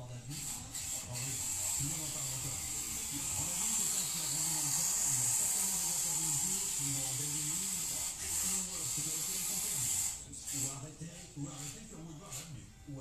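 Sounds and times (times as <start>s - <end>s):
small electric motor whining: 0.0s - 12.5s.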